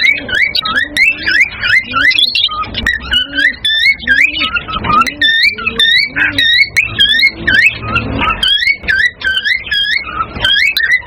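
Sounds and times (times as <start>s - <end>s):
cockatiels chirping: 0.0s - 11.0s.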